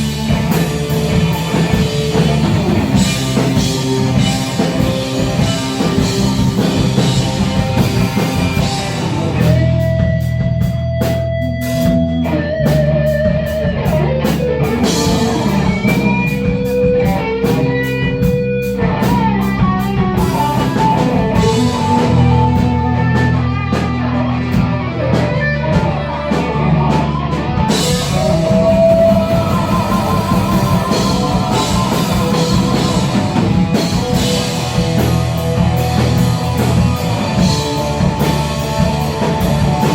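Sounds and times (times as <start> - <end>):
guitar lead line: 0.0 - 39.9
rock band playing: 0.0 - 39.9.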